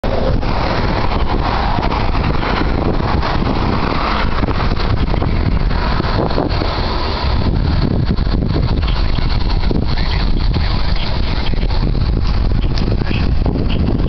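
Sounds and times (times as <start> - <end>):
car road noise: 0.0 - 14.0
wind fluttering: 0.0 - 14.0.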